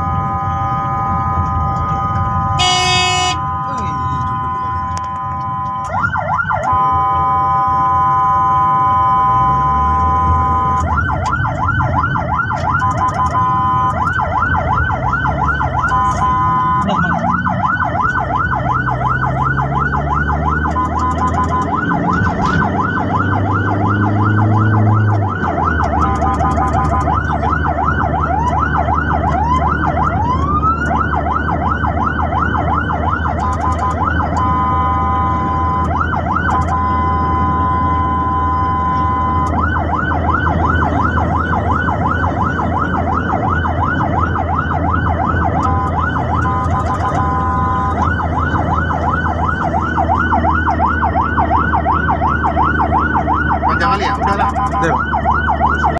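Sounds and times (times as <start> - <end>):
emergency siren yelping: 0.0 - 55.9
vehicle engine and road noise: 0.0 - 55.9.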